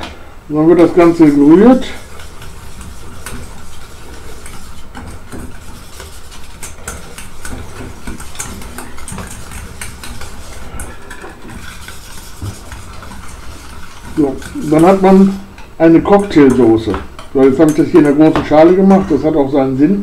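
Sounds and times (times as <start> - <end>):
utensil scraping metal bowl: 0.7 - 19.5.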